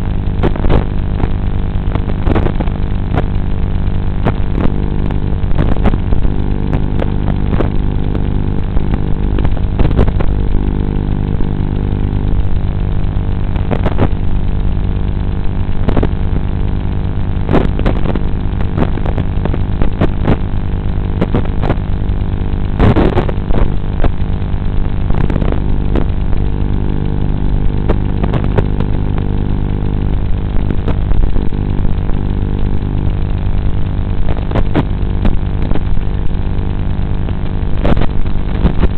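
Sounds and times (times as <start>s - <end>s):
crackles and clicks: 0.0s - 38.9s
steady electronic buzz: 0.0s - 38.9s.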